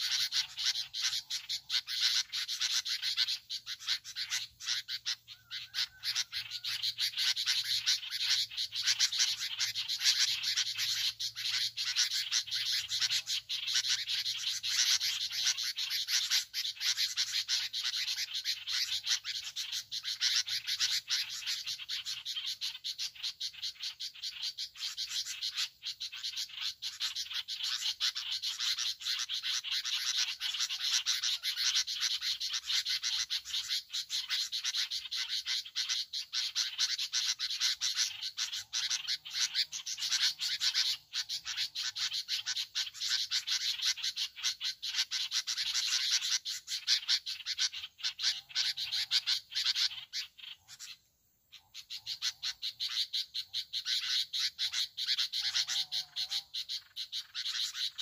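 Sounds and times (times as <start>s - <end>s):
chorus of frogs calling: 0.0s - 58.0s.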